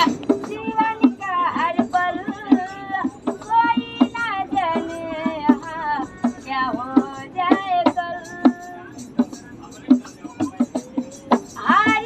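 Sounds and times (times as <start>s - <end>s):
girl singing: 0.0s - 8.9s, 10.8s - 12.0s.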